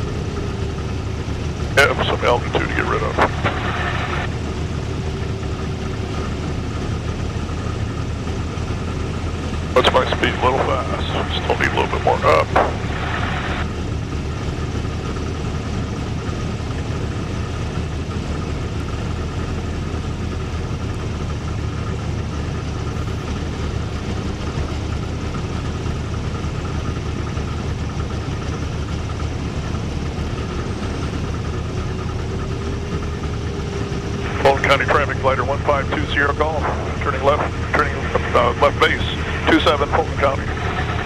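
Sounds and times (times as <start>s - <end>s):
aircraft engine and propeller droning: 0.0s - 41.0s.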